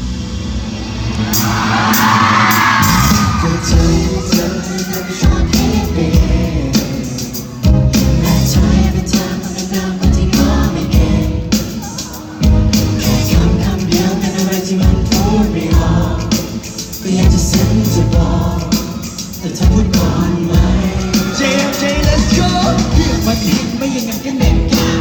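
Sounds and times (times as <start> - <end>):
crowd screaming and cheering: 0.0 - 25.0
pop music with singing: 1.3 - 25.0.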